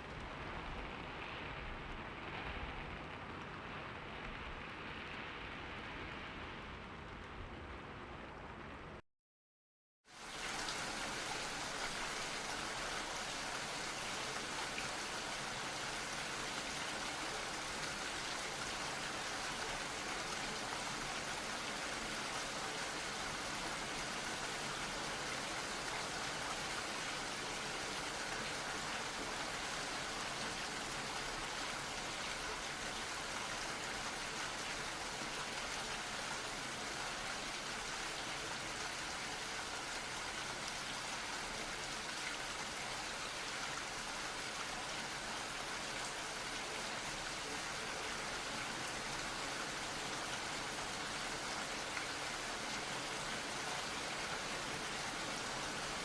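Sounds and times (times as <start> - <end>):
steady rain falling: 0.0 - 9.0, 10.1 - 56.0.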